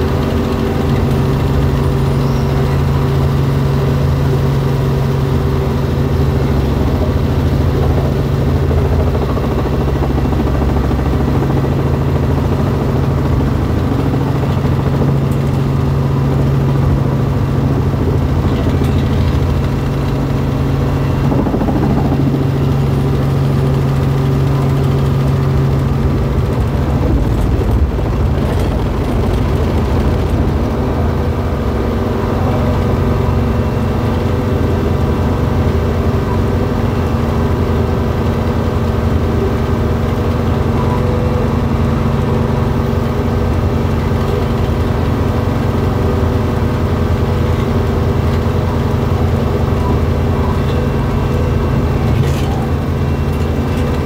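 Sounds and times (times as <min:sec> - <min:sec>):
helicopter engine and rotors drone: 0:00.0 - 0:54.0.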